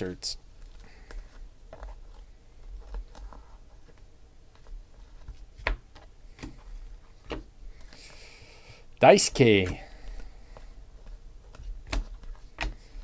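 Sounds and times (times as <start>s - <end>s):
cards clicking and rustling: 0.6s - 8.2s, 9.4s - 13.0s.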